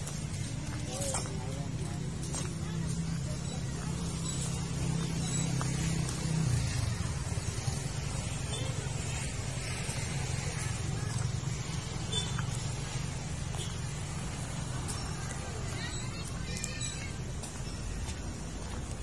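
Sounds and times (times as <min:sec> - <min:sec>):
distant road traffic rumble: 0:00.0 - 0:19.0.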